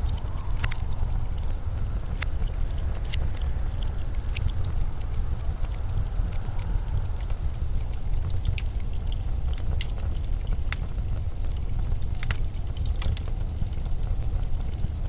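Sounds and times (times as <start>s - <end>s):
blizzard wind rumble: 0.0s - 15.0s
sharp crackles and ticks: 0.0s - 15.0s.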